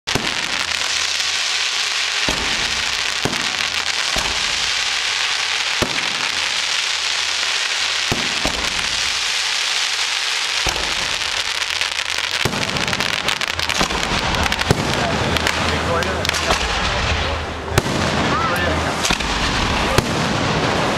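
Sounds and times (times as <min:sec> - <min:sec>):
fireworks bangs: 0:00.0 - 0:20.9
fireworks crackling: 0:00.0 - 0:20.9.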